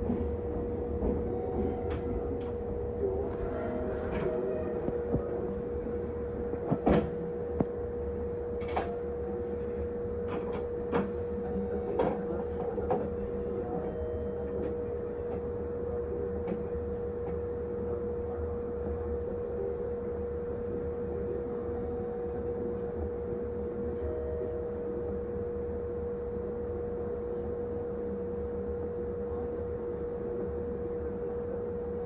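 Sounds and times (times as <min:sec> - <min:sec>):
electric train humming: 0:00.0 - 0:32.0.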